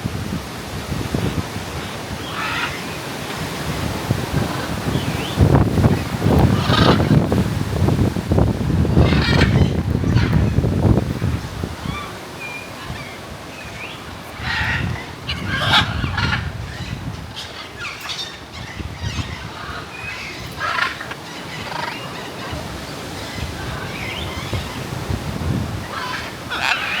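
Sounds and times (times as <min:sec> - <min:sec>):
wind rumbling on microphone: 0:00.0 - 0:27.0
birds giving harsh calls: 0:02.2 - 0:25.1, 0:25.7 - 0:27.0.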